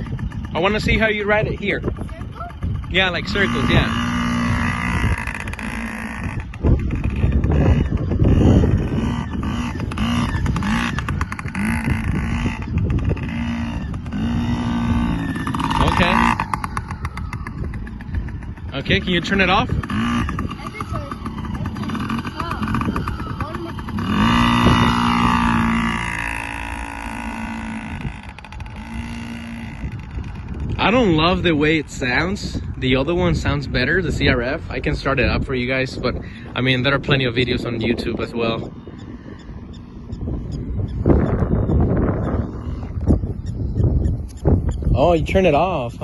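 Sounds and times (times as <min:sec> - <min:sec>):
small two-stroke engine revving: 0:00.0 - 0:31.6, 0:36.0 - 0:46.0
heavy low rumble: 0:00.0 - 0:46.0.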